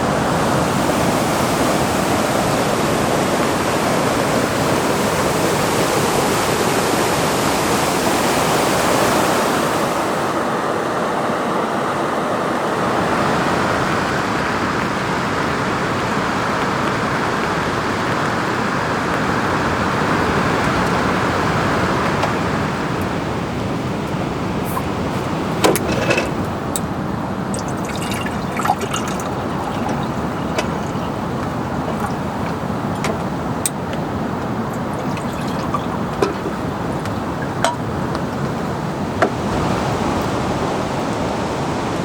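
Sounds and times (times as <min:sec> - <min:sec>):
fast-flowing river water rushing: 0:00.0 - 0:42.0.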